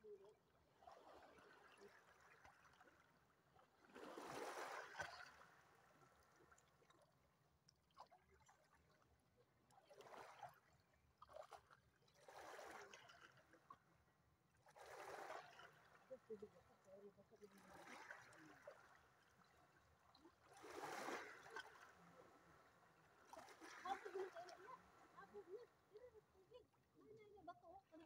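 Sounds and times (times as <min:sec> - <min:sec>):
small waves lapping over stones: 0:00.0 - 0:28.0.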